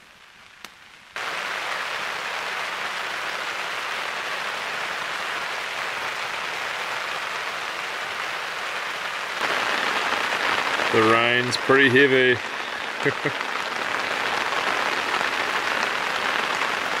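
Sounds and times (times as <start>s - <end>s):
heavy rain on a tarp: 0.0s - 17.0s.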